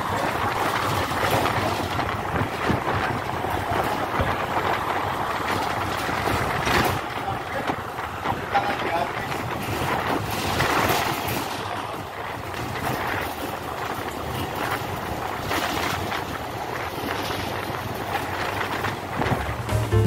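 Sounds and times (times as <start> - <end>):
wind buffeting microphone: 0.0 - 19.9
road traffic rushing: 0.0 - 20.0.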